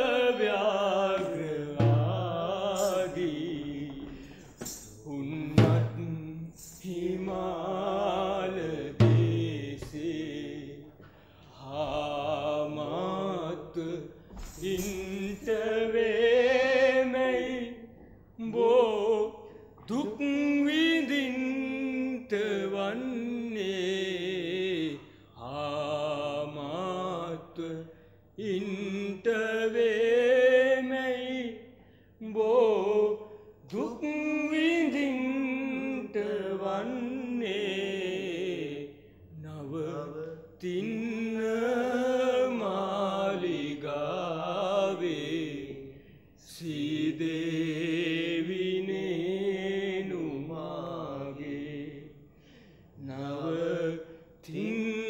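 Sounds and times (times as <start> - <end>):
man singing slow song: 0.0 - 52.3, 53.0 - 55.0.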